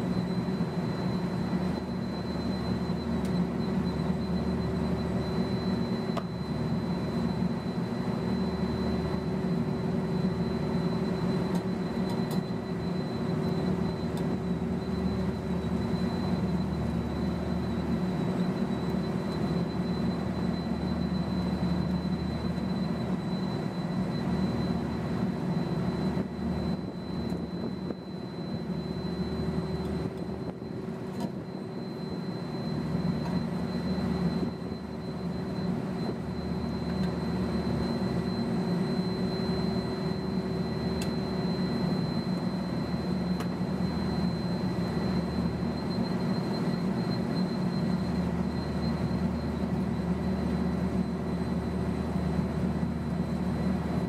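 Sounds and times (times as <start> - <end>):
thin high whine: 0.0 - 54.0.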